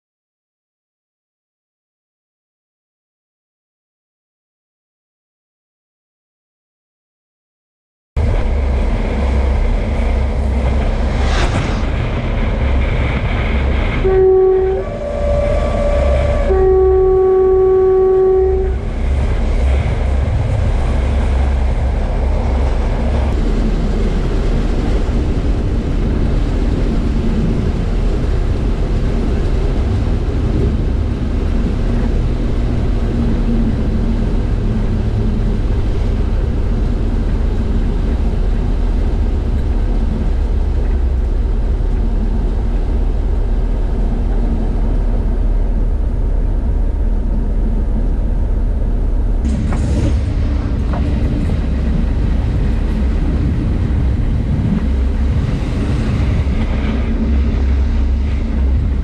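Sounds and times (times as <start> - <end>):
oncoming train passing: 8.2 - 59.0
train rumbling on track: 8.2 - 59.0.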